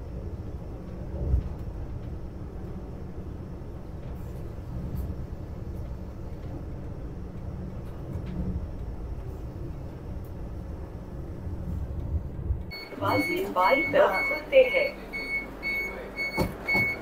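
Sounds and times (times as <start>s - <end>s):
train interior low rumble: 0.0s - 17.0s.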